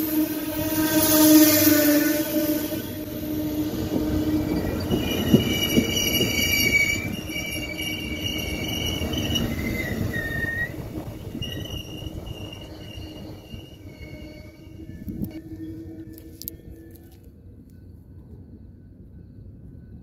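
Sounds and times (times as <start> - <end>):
train rolling rumble: 0.0 - 20.0
train wheel squeal: 0.0 - 20.0.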